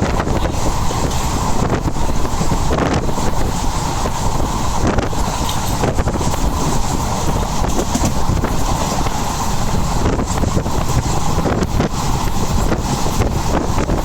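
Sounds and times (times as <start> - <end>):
train rumble: 0.0 - 14.0
wind buffeting microphone: 0.0 - 14.0.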